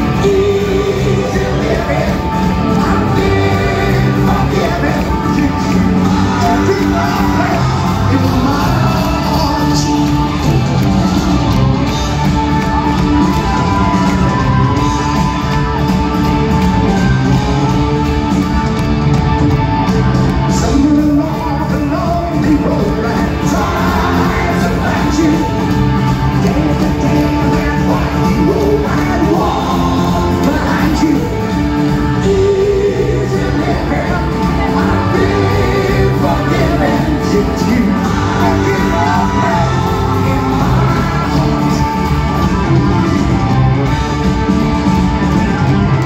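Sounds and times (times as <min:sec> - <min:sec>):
person singing: 0:00.0 - 0:15.8, 0:20.5 - 0:43.4
live rock band playing: 0:00.0 - 0:46.0.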